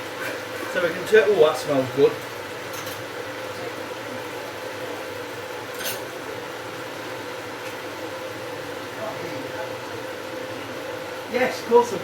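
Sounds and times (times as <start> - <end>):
kitchen hum and hiss: 0.0 - 12.0.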